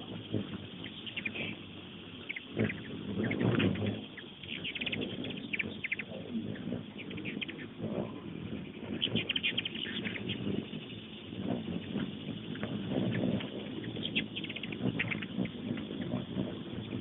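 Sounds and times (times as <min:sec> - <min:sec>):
hummingbirds chattering: 0:00.0 - 0:17.0
low steady rumble: 0:00.0 - 0:17.0.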